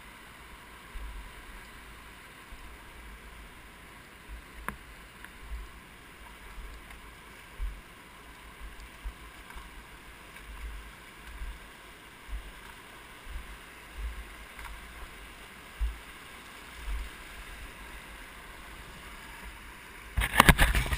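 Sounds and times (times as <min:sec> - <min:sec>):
stream rushing over stones: 0:00.0 - 0:20.9.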